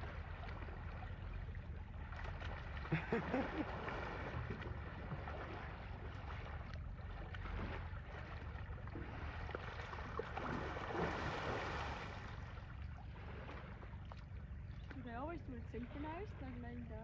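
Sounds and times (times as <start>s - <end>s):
muddy water sloshing and splashing: 0.0s - 17.0s
steady low rumble: 0.0s - 17.0s.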